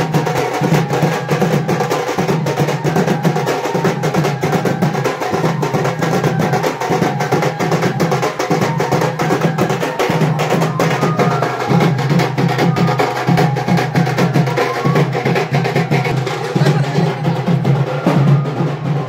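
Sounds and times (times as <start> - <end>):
dhol drum beaten fast: 0.0 - 19.0.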